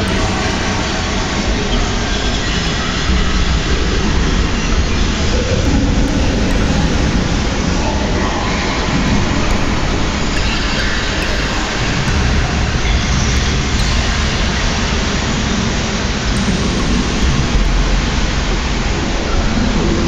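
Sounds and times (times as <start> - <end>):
dense electronic noise: 0.0 - 20.0.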